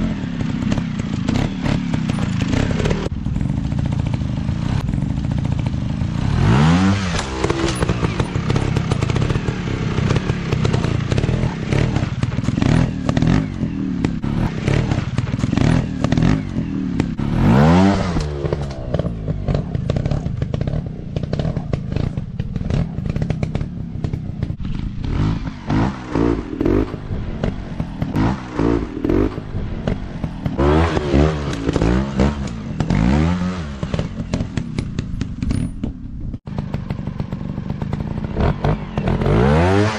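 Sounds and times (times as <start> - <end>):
dirt bike engines revving: 0.0 - 35.8, 36.4 - 39.9
clatter: 0.0 - 39.9.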